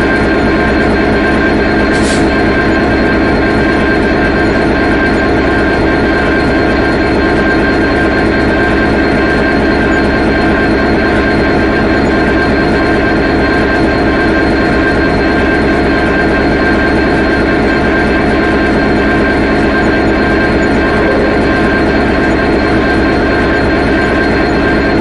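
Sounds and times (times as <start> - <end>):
diesel locomotive engine idling: 0.0 - 25.0
engine whine: 0.0 - 25.0.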